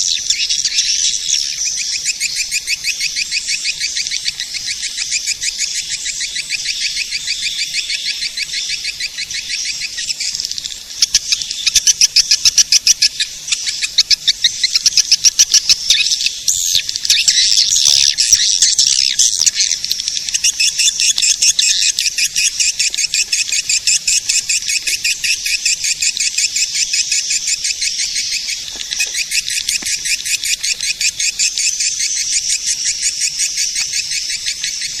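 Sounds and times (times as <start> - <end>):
rapid chattering bird chirps: 0.0 - 35.0.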